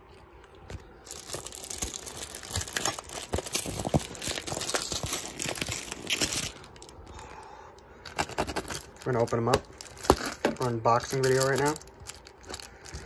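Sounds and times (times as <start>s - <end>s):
plastic wrapping crinkling: 0.0s - 7.4s, 8.0s - 13.0s.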